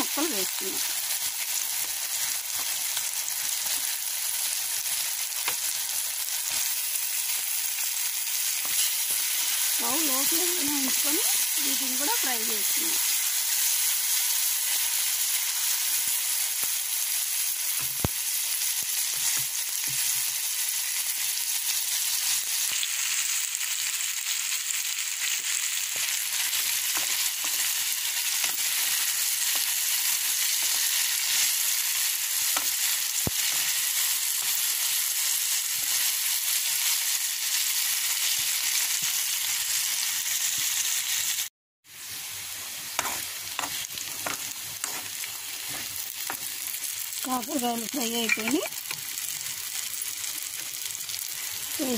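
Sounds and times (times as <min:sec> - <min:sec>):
vegetables sizzling in hot oil: 0:00.0 - 0:51.9.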